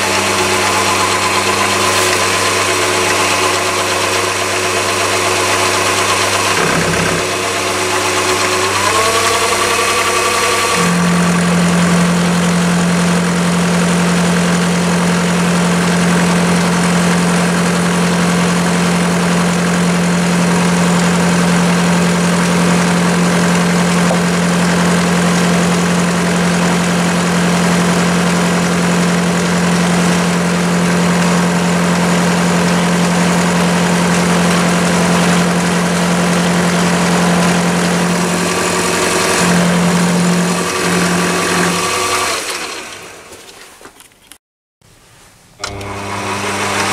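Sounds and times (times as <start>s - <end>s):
lathe motor humming: 0.0s - 43.3s, 45.6s - 46.9s.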